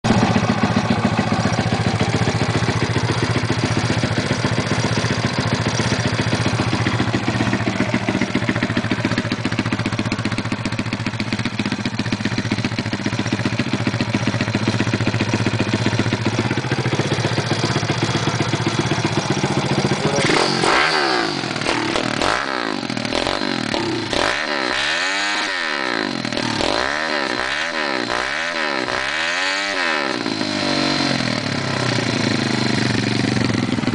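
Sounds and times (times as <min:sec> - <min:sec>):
motorcycle engine running and revving: 0:00.0 - 0:33.9.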